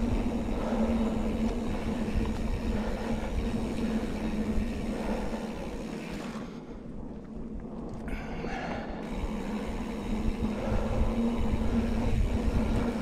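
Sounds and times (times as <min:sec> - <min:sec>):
bike tyres on dirt: 0:00.0 - 0:13.0
steady low hum: 0:00.0 - 0:13.0
wind rumble on microphone: 0:00.0 - 0:13.0.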